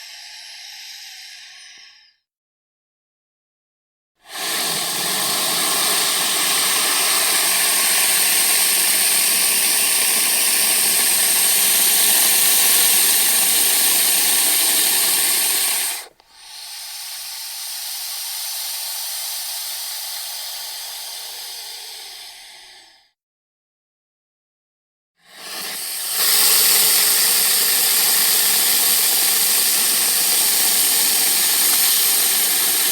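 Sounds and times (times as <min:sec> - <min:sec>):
snake hissing: 0:00.0 - 0:02.2, 0:04.2 - 0:23.2, 0:25.2 - 0:32.9.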